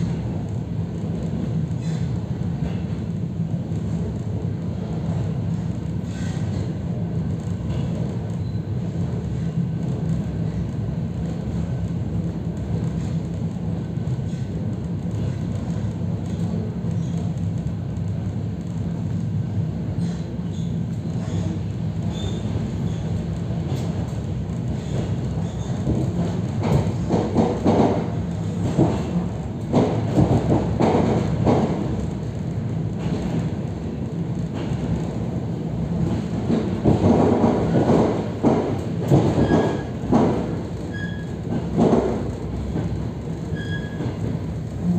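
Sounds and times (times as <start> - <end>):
train rumble and hum: 0.0 - 44.9.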